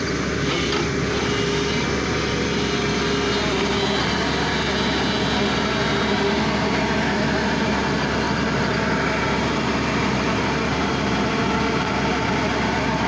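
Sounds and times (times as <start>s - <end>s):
hydraulic auger boring into ground: 0.0s - 12.5s
diesel engine running: 0.0s - 13.0s.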